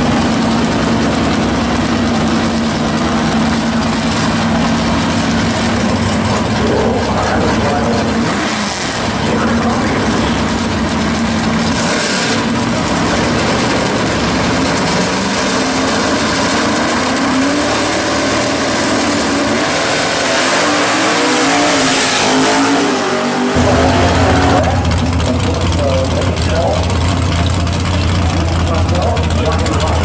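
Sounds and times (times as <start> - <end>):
car engine revving: 0.0 - 30.0
loud deep engine sound: 0.0 - 30.0.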